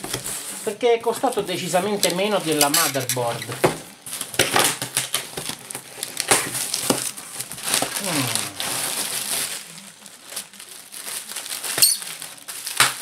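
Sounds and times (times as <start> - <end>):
plastic and paper packing crinkling: 0.0 - 13.0.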